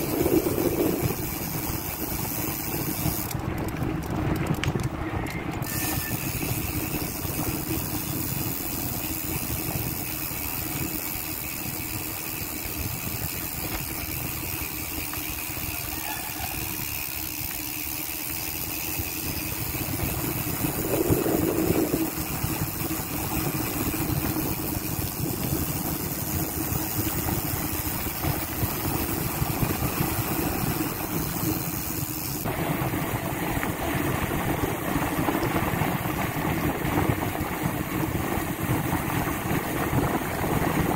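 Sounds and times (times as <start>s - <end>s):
bicycle hub freewheeling buzz: 0.0s - 40.9s.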